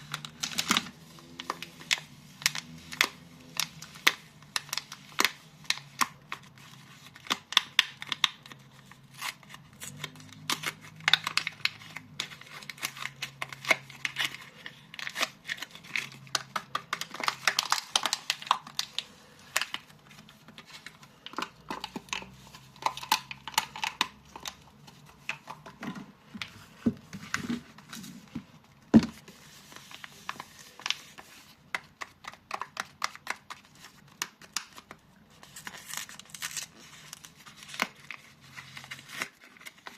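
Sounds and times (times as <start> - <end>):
wrappers crinkling and tearing: 0.0 - 25.6, 29.2 - 39.9.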